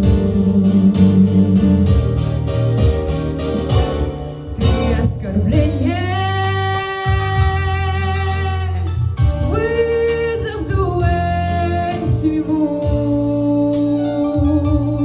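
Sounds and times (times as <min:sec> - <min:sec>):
woman singing: 0:00.0 - 0:02.0, 0:04.6 - 0:15.0
bass line: 0:00.0 - 0:15.0.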